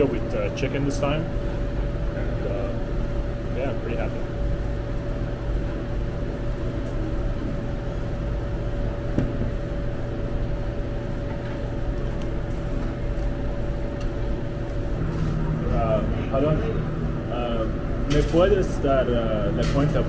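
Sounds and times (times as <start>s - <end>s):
mechanical hum with faint whine: 0.0s - 20.0s.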